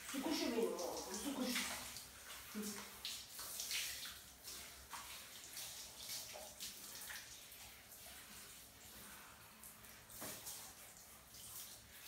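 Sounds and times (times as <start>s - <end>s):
shower water spraying on fur: 0.0s - 12.0s.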